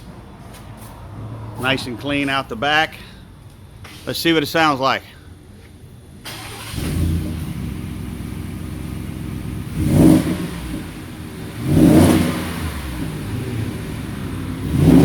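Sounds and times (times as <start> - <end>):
truck engine idling and revving: 0.0 - 4.0, 5.8 - 15.0.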